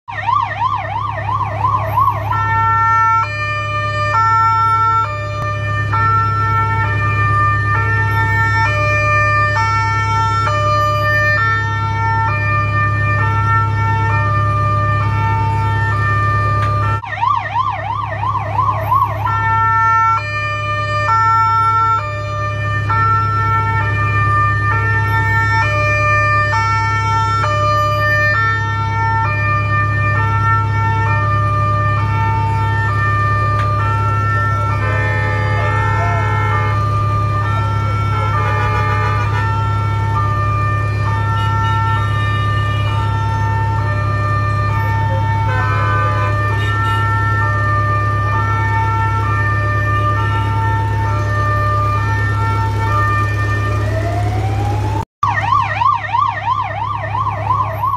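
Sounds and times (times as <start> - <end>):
ambulance siren: 0.0 - 57.9.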